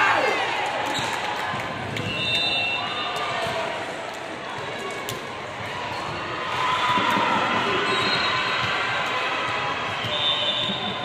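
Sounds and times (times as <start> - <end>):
spectators cheering and shouting: 0.0 - 11.0.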